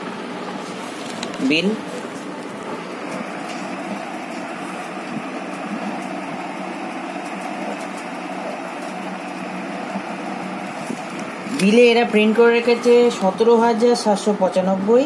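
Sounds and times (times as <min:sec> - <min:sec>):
steady whirring: 0:00.0 - 0:15.0.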